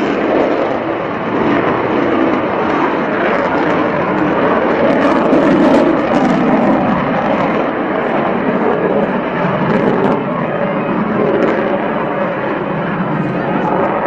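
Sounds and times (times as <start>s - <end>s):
jet engine crackles: 0.0s - 14.0s
jet roar: 0.0s - 14.0s.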